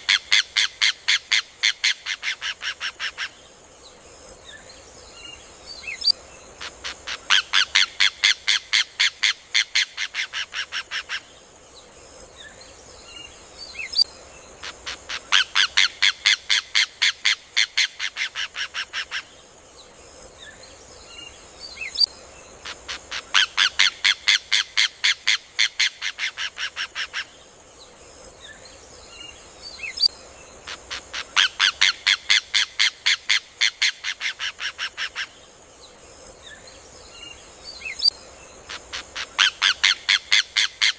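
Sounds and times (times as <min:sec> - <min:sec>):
faint bird chirps: 0:00.0 - 0:24.9, 0:25.6 - 0:40.9.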